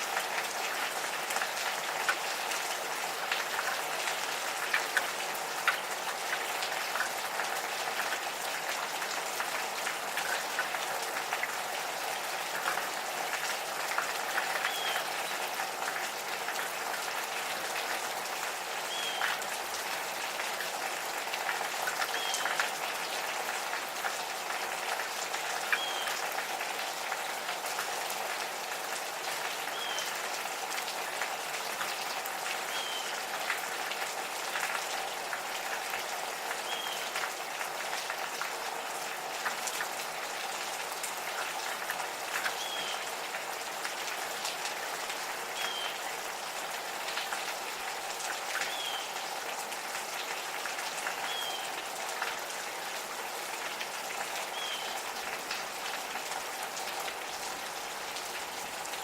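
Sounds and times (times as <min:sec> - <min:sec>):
gentle rain pattering: 0:00.0 - 0:59.0.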